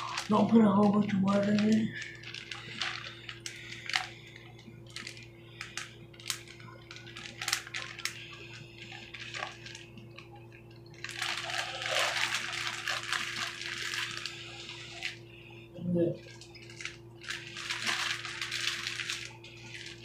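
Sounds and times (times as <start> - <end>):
plastic bag crinkling: 0.0 - 15.4, 16.2 - 20.0.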